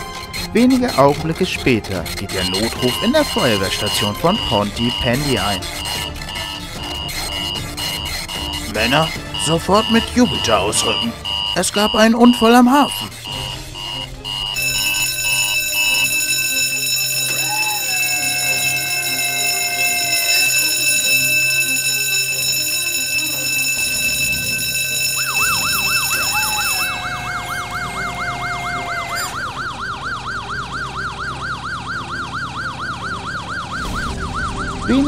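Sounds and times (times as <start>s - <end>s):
electronic yelp siren: 1.8s - 35.0s
alarm bell ringing: 2.3s - 31.3s
rising siren tone: 2.6s - 35.0s.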